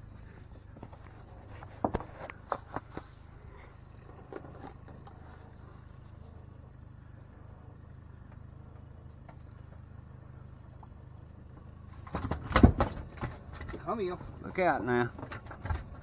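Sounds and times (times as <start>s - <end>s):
boat motor idling: 0.0s - 16.0s.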